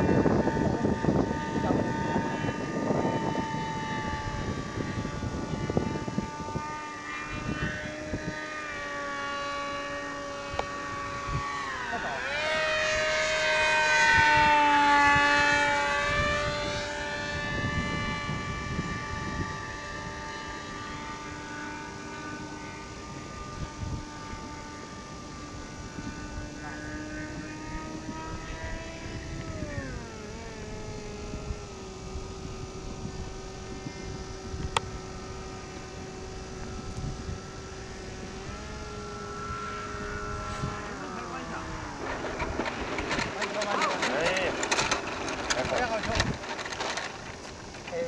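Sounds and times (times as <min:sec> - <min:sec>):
model jet motor whining: 0:00.0 - 0:48.0.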